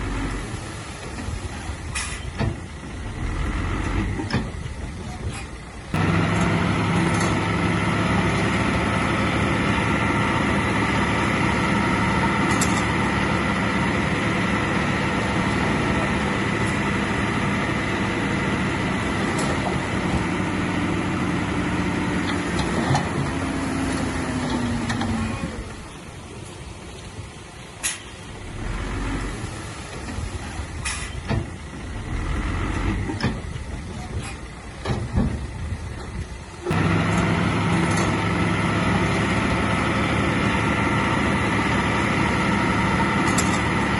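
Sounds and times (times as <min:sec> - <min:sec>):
heavy diesel engine running: 0:00.0 - 0:26.4, 0:28.3 - 0:43.9.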